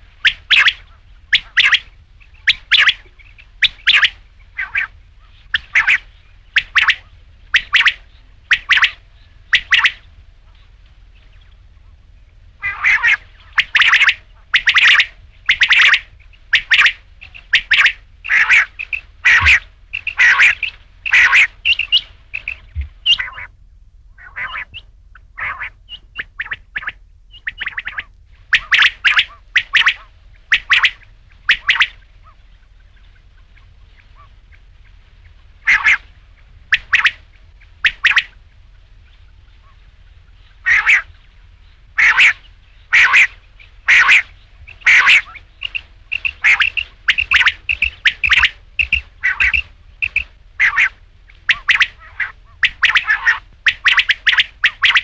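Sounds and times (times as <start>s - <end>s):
quail calling: 0.0s - 23.6s, 24.2s - 55.0s.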